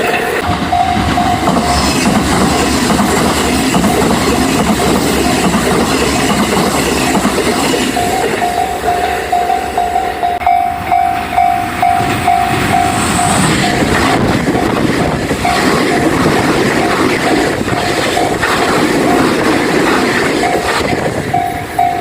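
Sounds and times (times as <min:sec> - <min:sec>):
crossing warning bell: 0:00.0 - 0:19.6, 0:20.4 - 0:22.0
train wheels clattering on rails: 0:00.0 - 0:22.0.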